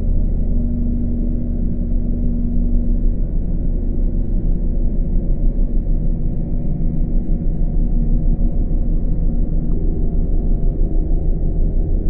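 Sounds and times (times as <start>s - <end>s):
dense low drone: 0.0s - 12.0s.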